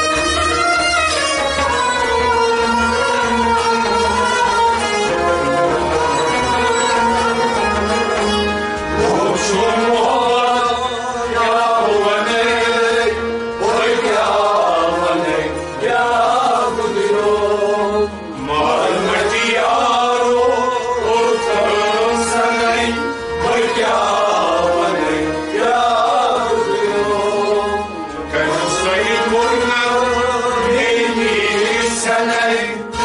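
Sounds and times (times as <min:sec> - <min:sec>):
harmonium and string instruments: 0:00.0 - 0:33.0
men singing: 0:02.5 - 0:33.0.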